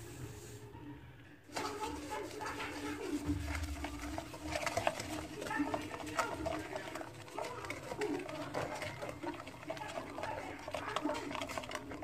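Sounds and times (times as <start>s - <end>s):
wooden spoon scraping a wok: 1.5s - 12.0s.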